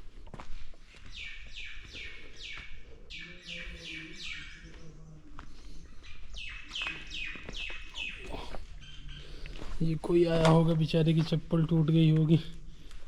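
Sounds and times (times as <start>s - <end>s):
bird chirping: 0.8s - 12.4s.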